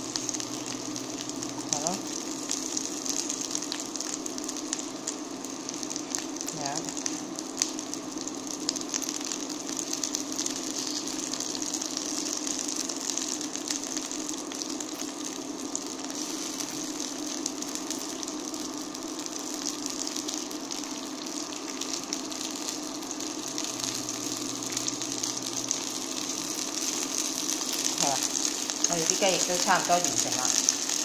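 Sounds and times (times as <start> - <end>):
chicken wings sizzling in oil: 0.0 - 31.0.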